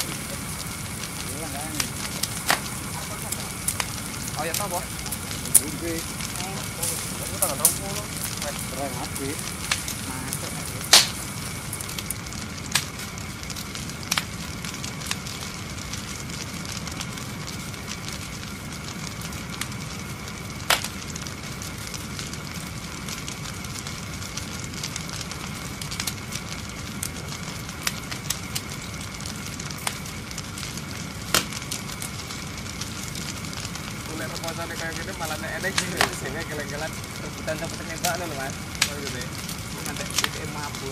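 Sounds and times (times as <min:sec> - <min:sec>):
fire crackling: 0:00.0 - 0:40.9
fire popping: 0:00.0 - 0:40.9.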